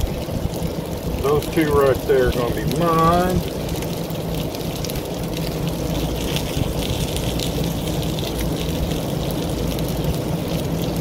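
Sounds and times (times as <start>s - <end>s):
low steady hum: 0.0s - 11.0s
meat sizzling on a griddle: 0.0s - 11.0s.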